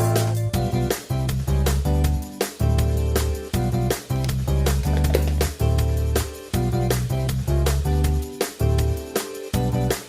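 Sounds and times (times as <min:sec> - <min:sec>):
guitar music with beat: 0:00.0 - 0:10.0.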